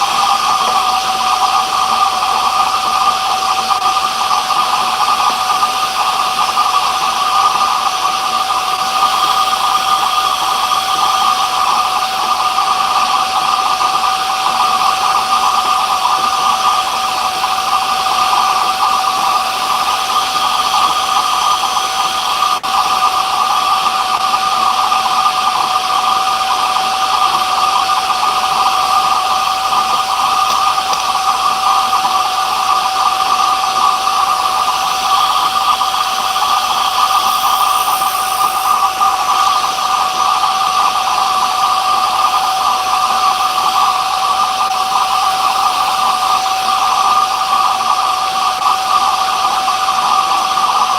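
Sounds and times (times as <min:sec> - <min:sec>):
power tool motor whining: 0:00.0 - 0:50.9.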